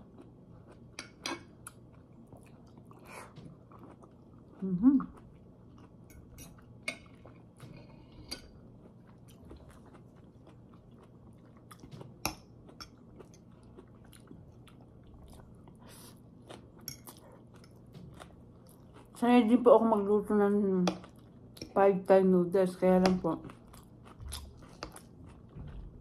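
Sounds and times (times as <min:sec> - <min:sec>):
chewing noodles: 0:00.0 - 0:19.2, 0:23.4 - 0:26.0.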